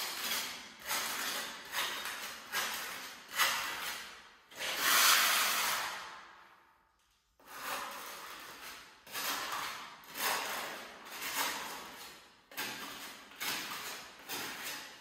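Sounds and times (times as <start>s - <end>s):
steel trowel scraping: 0.0s - 6.1s, 7.4s - 15.0s.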